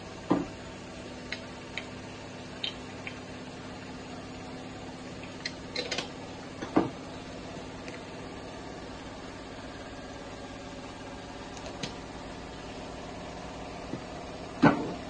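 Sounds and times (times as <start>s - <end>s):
motor or fan humming: 0.0s - 15.0s.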